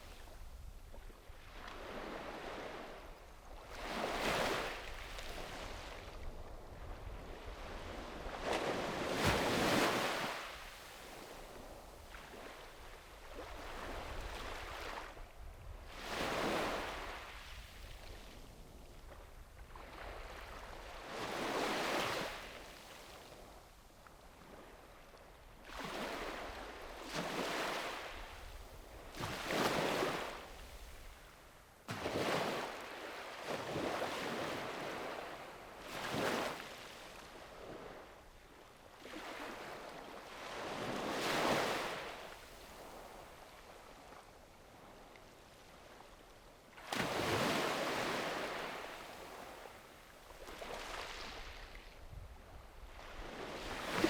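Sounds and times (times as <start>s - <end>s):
sea waves breaking on a beach: 0.0s - 23.7s, 24.3s - 54.0s.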